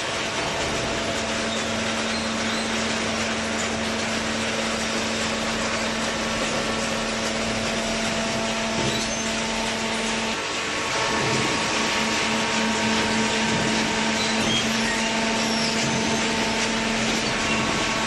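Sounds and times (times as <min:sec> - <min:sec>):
baler machine running: 0:00.0 - 0:18.0
constant machine hum: 0:00.0 - 0:18.0.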